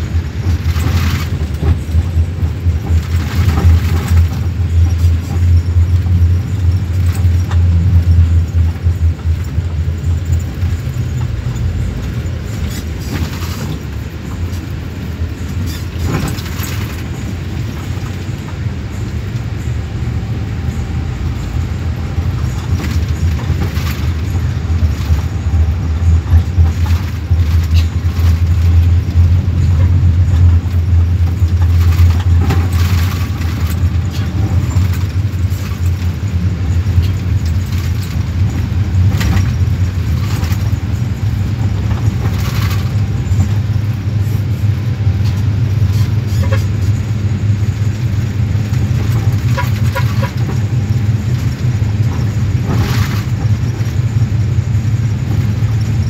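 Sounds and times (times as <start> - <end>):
bus engine rumble: 0.0 - 56.0.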